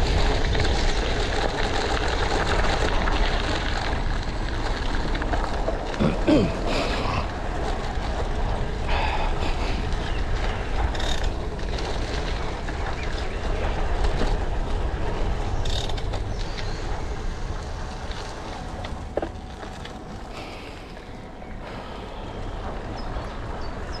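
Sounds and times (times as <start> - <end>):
bicycle tyres crunching on gravel: 0.0 - 24.0
wind rumbling on microphone: 0.0 - 24.0.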